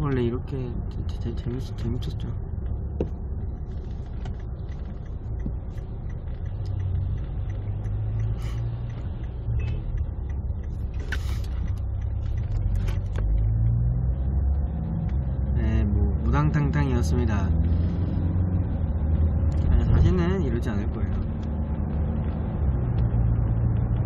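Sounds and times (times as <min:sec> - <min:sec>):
car engine rumble: 0:00.0 - 0:24.0
road noise: 0:00.0 - 0:24.0.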